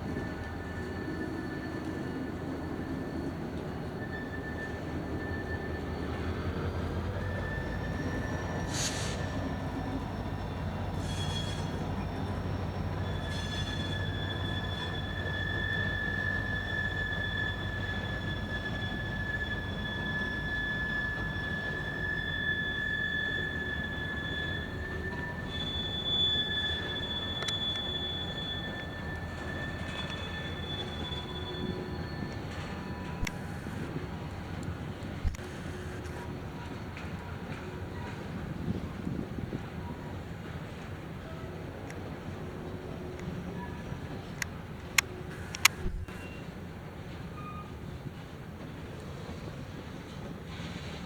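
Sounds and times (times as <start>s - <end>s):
freight train rumbling: 0.0s - 51.0s
train wheels squealing: 0.0s - 51.0s.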